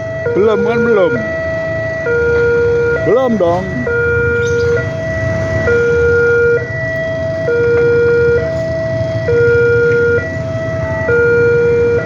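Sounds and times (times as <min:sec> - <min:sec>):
level crossing two-tone alarm: 0:00.0 - 0:12.0
low traffic rumble: 0:00.0 - 0:12.0.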